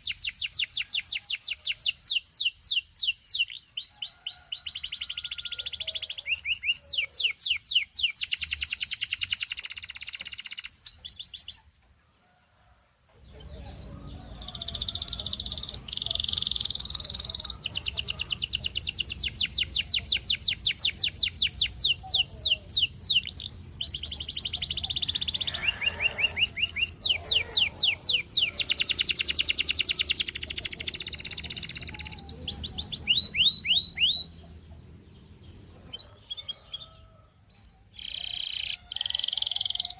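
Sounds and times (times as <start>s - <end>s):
canary singing trills: 0.0s - 11.7s, 13.2s - 39.9s.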